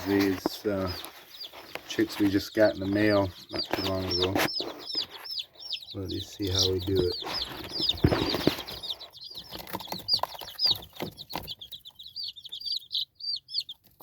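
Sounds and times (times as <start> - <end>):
rustling: 0.0 - 12.2
chicks peeping: 0.0 - 14.0.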